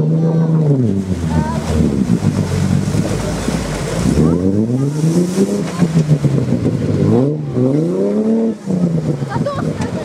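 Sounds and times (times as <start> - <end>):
vehicle engine accelerating: 0.0 - 10.0.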